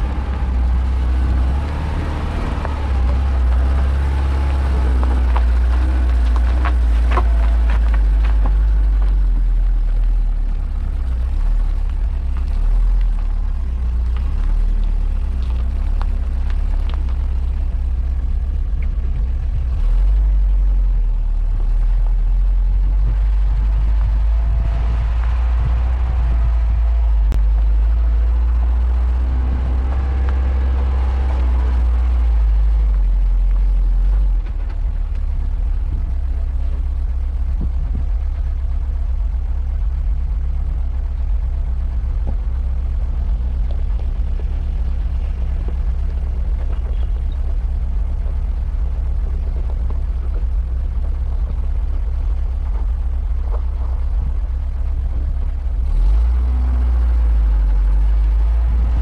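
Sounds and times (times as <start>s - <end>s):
van engine rumbling: 0.0s - 59.0s.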